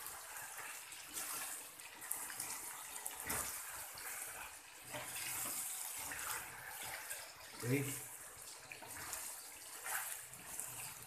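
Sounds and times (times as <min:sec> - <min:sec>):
chicken sizzling in a pan: 0:00.0 - 0:11.0
spatula scraping a pan: 0:00.0 - 0:11.0.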